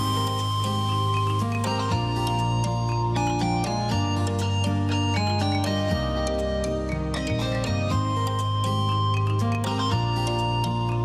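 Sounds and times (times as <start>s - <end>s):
plucked tinkling melody: 0.0s - 11.0s.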